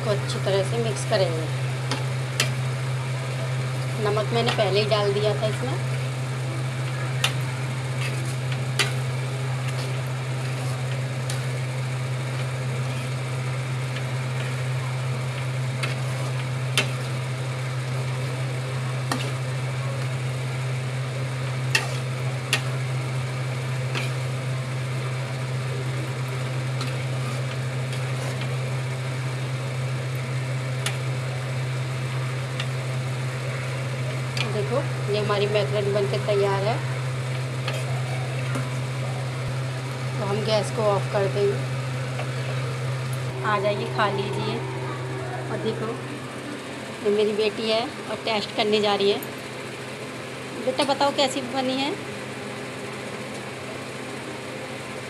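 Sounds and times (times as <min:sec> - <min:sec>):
food sizzling: 0:00.0 - 0:51.0
steady low hum: 0:00.0 - 0:55.0.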